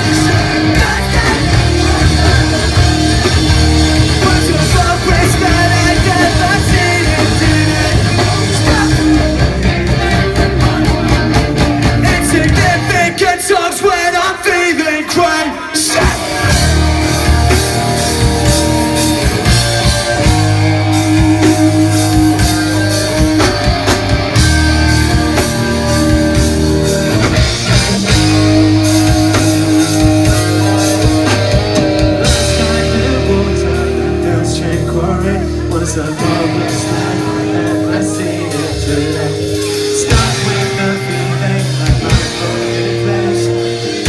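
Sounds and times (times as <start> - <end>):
heavy bass line: 0.0 - 13.3, 15.9 - 44.0
electric guitar: 0.0 - 14.0, 15.0 - 44.0.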